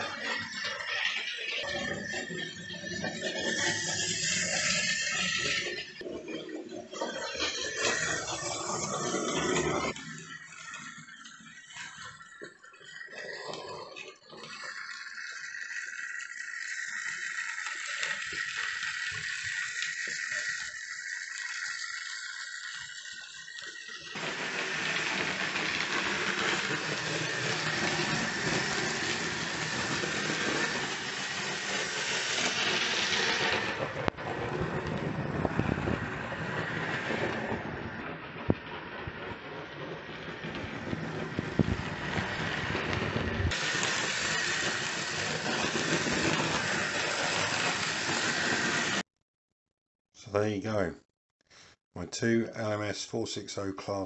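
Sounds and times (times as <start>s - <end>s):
model train motor whirring: 0.0s - 49.1s
wheels rolling on rails: 0.0s - 49.1s.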